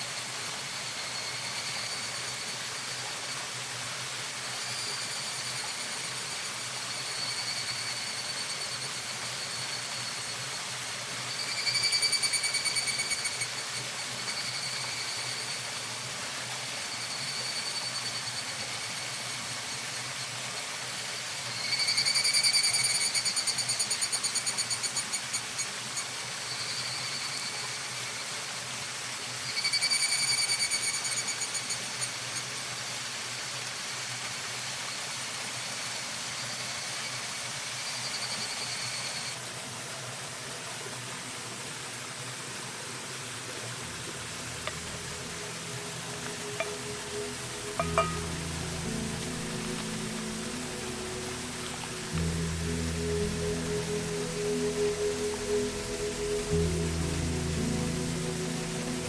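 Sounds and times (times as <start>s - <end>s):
cicadas calling in pulsing trills: 0.0s - 40.3s, 43.0s - 59.0s
steady hiss: 0.0s - 59.0s.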